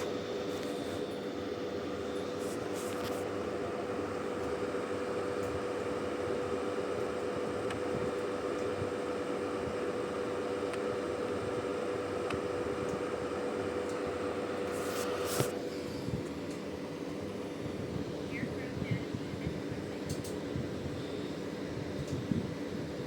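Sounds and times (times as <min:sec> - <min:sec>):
machine hum: 0:00.0 - 0:21.8
constant whine: 0:00.0 - 0:23.0.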